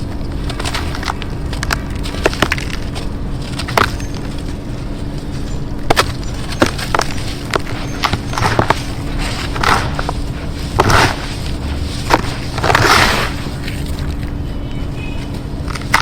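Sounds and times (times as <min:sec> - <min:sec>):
dirt crumbling by hand: 0:00.0 - 0:16.0
low hum: 0:00.0 - 0:16.0.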